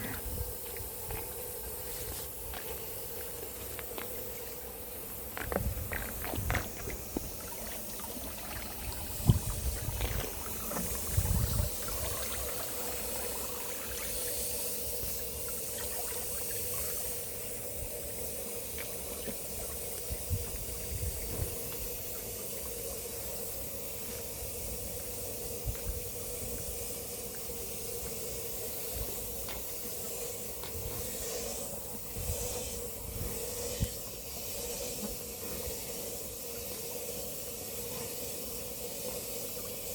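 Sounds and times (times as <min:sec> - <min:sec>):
faint steady hum: 0:00.0 - 0:39.9
outdoor background hiss: 0:00.0 - 0:39.9.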